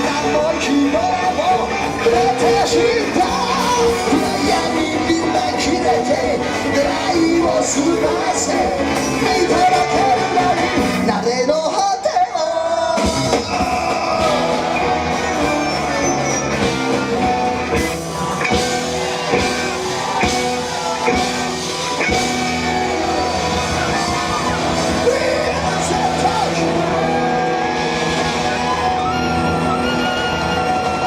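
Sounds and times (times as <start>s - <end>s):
electric guitar: 0.0s - 11.6s, 13.0s - 31.0s
live rock band playing: 0.0s - 31.0s.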